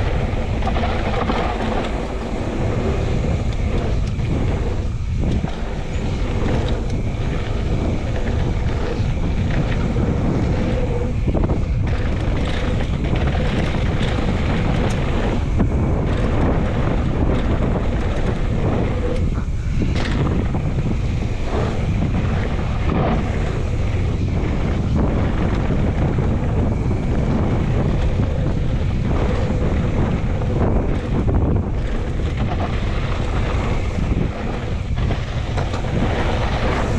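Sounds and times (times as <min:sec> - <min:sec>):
bike knocks and rattles: 0:00.0 - 0:36.9
tyres rumbling on dirt trail: 0:00.0 - 0:36.9
wind buffeting microphone: 0:00.0 - 0:36.9.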